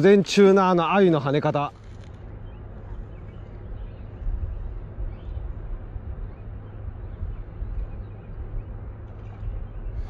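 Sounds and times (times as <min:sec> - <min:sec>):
uneven low rumble: 0:01.7 - 0:10.0.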